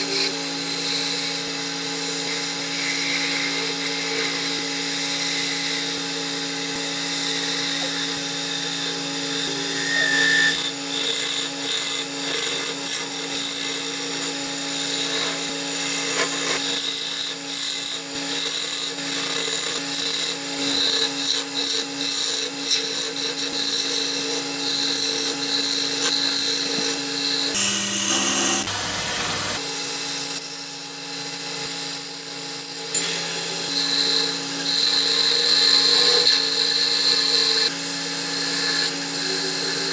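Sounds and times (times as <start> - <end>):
chisel scraping spinning wood: 0.0 - 39.9
wood lathe humming: 0.0 - 39.9.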